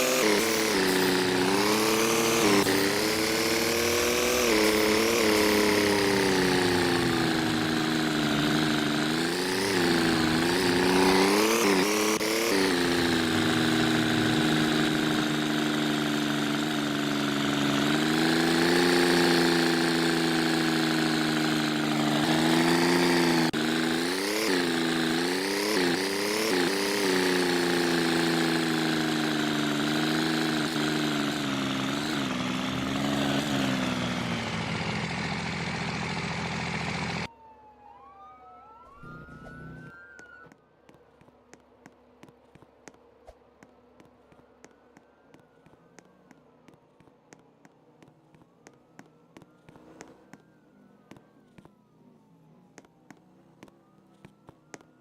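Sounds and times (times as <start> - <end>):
engine running and surging: 0.0 - 37.9, 38.6 - 55.0.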